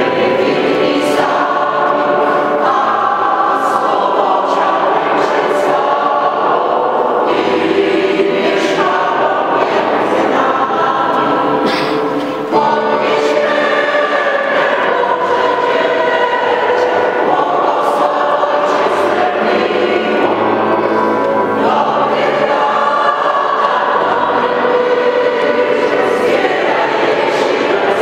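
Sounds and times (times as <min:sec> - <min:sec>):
mixed choir singing: 0:00.0 - 0:28.0.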